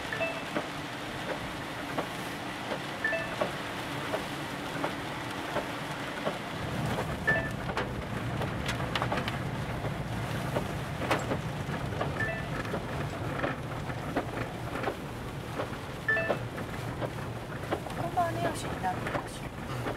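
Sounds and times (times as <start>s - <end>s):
tyre and road noise: 0.0s - 19.9s.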